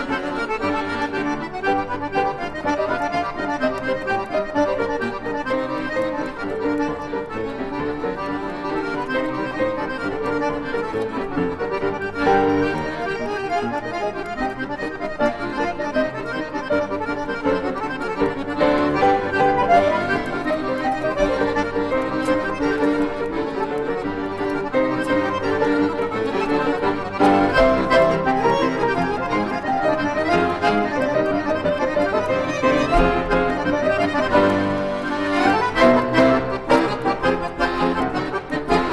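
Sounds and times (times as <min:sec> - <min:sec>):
electronic keyboard melody: 0:00.0 - 0:38.9.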